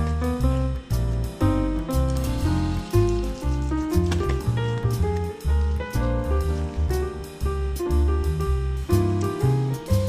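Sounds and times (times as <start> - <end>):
upbeat jazzy tune: 0.0 - 10.0.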